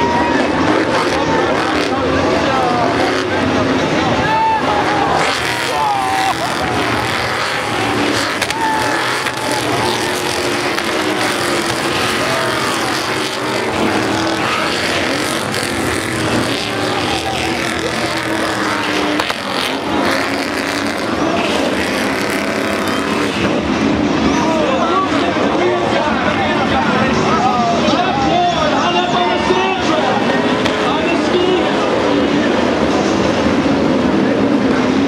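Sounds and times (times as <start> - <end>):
race truck engines revving: 0.0 - 35.0.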